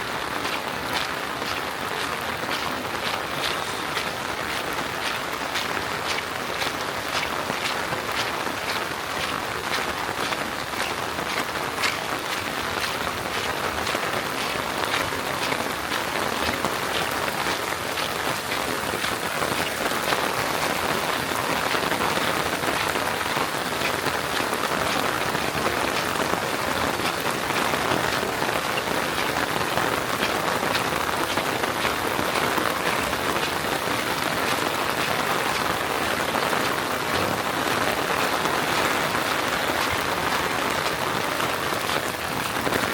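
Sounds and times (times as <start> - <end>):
rain falling: 0.0 - 42.9
raindrops ticking on a surface: 0.0 - 42.9.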